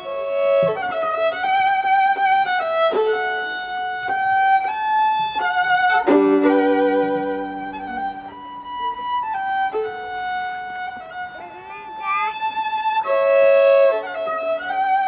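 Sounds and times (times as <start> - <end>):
violin playing slow melody: 0.0 - 15.0.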